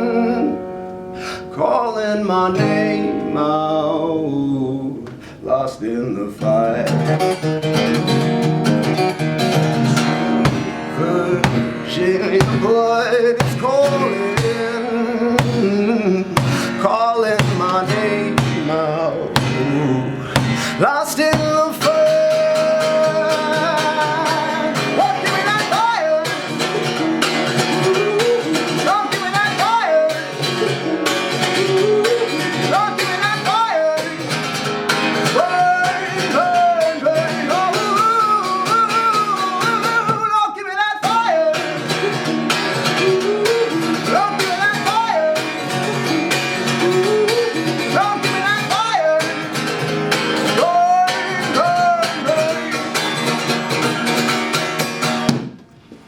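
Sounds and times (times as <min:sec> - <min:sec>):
person singing wordless melody: 0:00.0 - 0:08.2, 0:08.9 - 0:34.4, 0:35.2 - 0:53.4
strummed guitar: 0:00.0 - 0:56.0.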